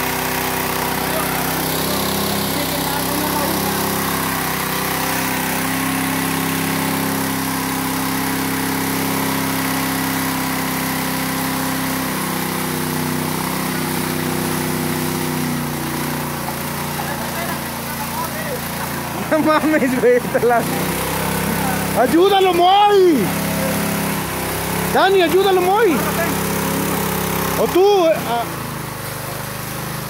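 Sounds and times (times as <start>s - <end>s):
water gushing onto rock: 0.0s - 30.0s
water pump engine running: 0.0s - 30.0s.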